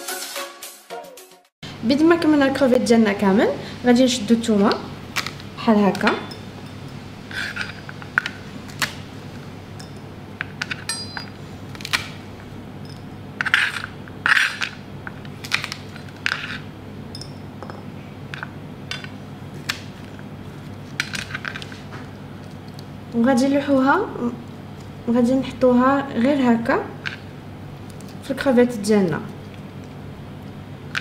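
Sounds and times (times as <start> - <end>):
steady low hum: 1.6 - 31.0.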